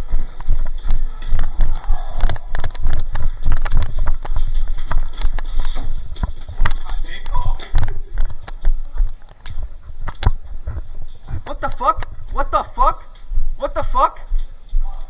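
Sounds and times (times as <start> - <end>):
gear clicking and rattling: 0.0 - 14.9
running footsteps: 0.0 - 15.0.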